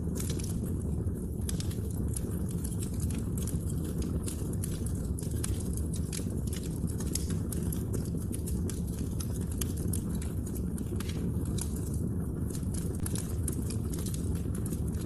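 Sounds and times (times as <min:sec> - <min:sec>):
fire rumbling: 0:00.0 - 0:15.0
wood crackling and popping: 0:00.0 - 0:15.0.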